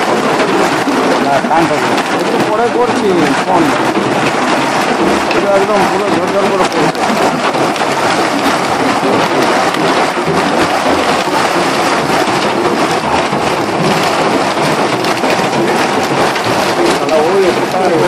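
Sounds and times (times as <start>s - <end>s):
hailstones pelting down: 0.0s - 18.0s.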